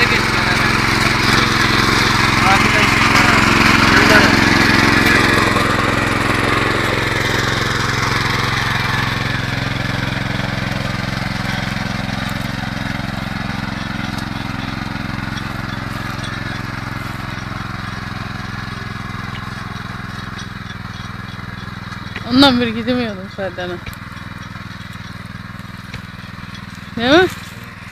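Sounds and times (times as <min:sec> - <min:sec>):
rotary tiller engine running: 0:00.0 - 0:27.9.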